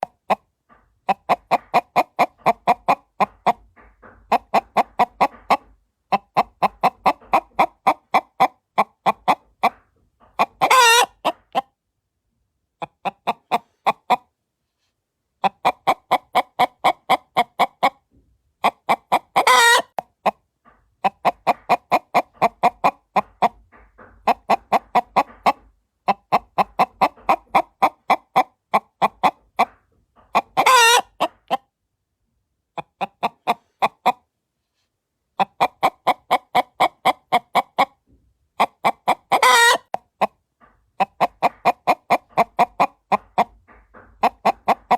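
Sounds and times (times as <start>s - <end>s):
hen clucking: 0.0s - 11.8s, 12.6s - 14.4s, 15.2s - 31.8s, 32.6s - 34.4s, 35.2s - 44.9s.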